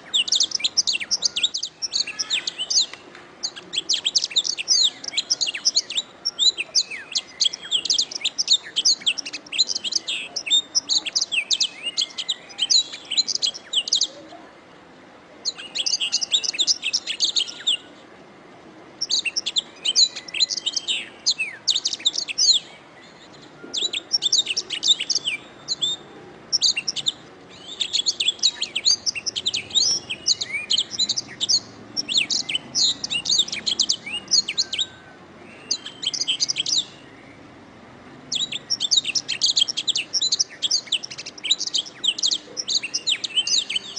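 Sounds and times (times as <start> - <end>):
canary singing: 0.0 - 14.4, 15.4 - 18.0, 19.0 - 37.6, 38.2 - 43.9.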